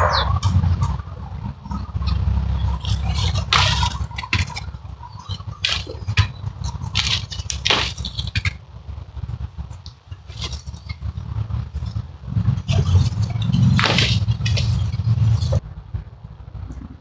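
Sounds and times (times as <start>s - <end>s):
leaves and twigs rustling: 0.0s - 15.6s
steady low rumble: 0.0s - 17.0s.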